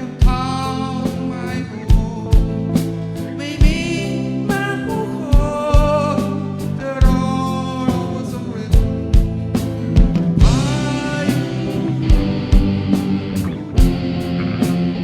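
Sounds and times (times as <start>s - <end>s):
person singing: 0.0s - 13.8s
electric guitar: 0.0s - 15.0s
steady drum beat: 0.2s - 1.2s, 1.9s - 15.0s.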